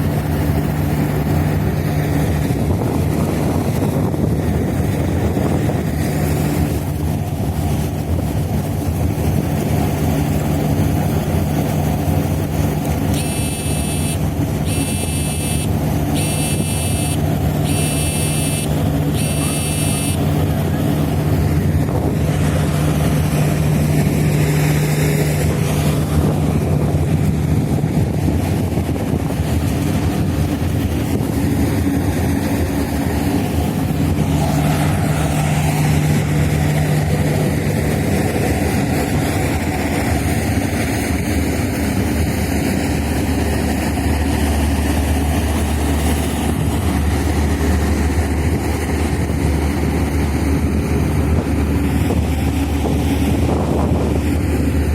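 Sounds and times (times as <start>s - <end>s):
ferry engines droning: 0.0s - 54.9s
wind and water hiss: 0.0s - 54.9s.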